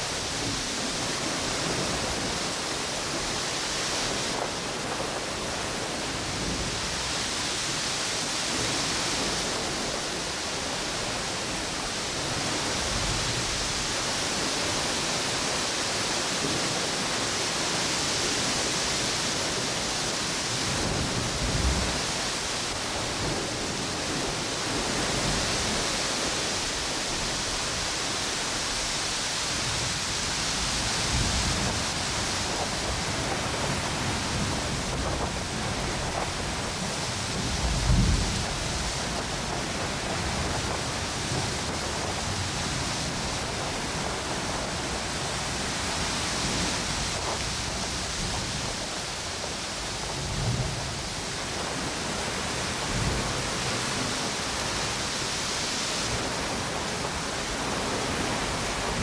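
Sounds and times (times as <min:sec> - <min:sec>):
ocean surf: 0:00.0 - 0:59.0
strong wind: 0:00.0 - 0:59.0
wind buffeting microphone: 0:00.0 - 0:59.0.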